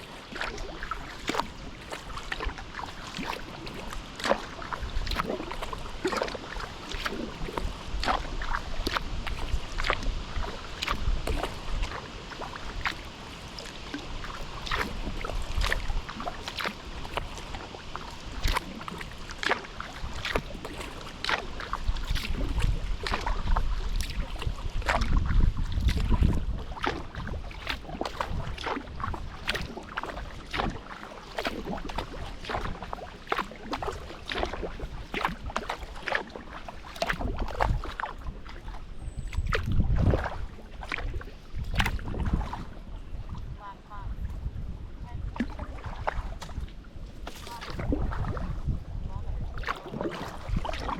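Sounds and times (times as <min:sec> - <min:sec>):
paddle splashes and drips: 0:00.0 - 0:50.9
wind rumble on microphone: 0:00.0 - 0:50.9.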